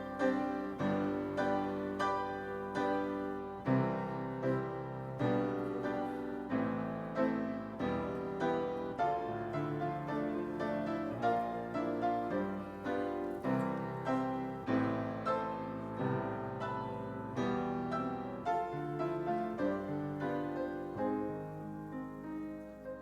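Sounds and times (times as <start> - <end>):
slow gentle piano piece: 0.0 - 23.0.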